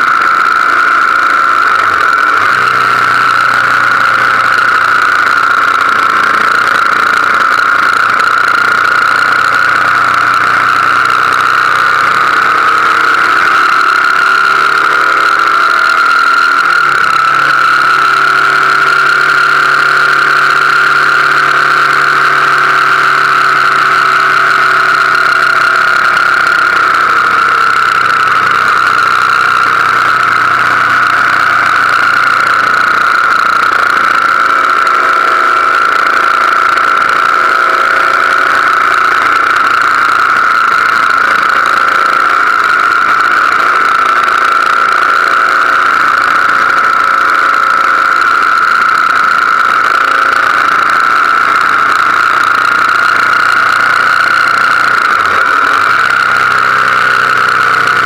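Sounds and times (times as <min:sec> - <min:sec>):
motorcycle engine hum: 0:00.0 - 0:58.0.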